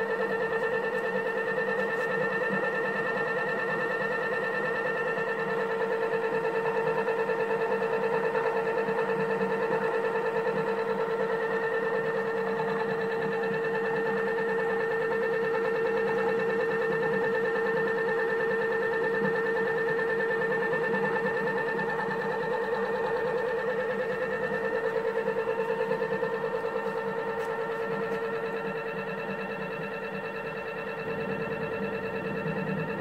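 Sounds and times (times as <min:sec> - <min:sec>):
flywheel spinning with mechanical hum: 0:00.0 - 0:33.0.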